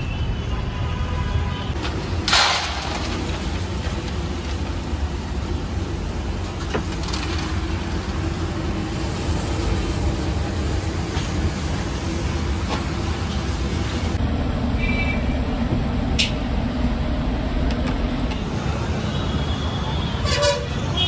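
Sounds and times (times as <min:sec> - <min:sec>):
low rumble of traffic: 0:01.4 - 0:21.0.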